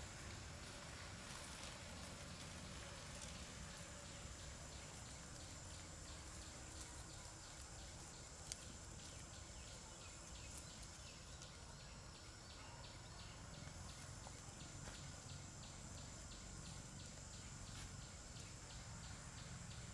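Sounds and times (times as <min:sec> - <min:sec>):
insects buzzing: 0:00.0 - 0:19.9
insect chirping: 0:00.1 - 0:19.9.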